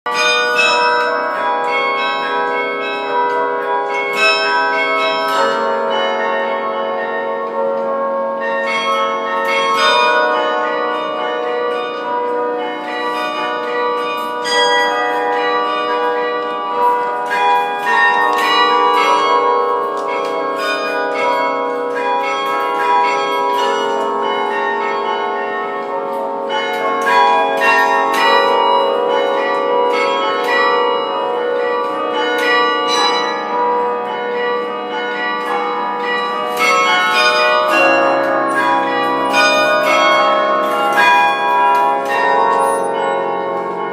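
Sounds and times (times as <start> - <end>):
carillon bells melody: 0.1 - 43.9.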